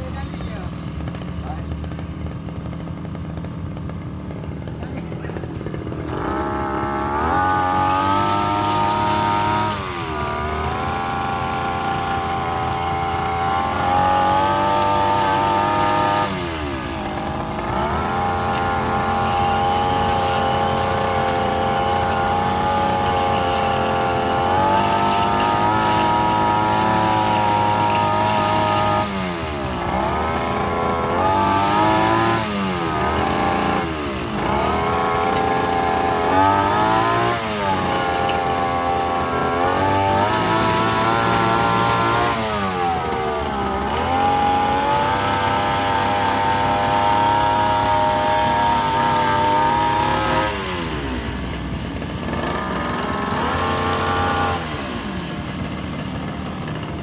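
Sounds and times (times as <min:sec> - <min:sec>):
brush cutter engine revving: 0:00.0 - 0:57.0.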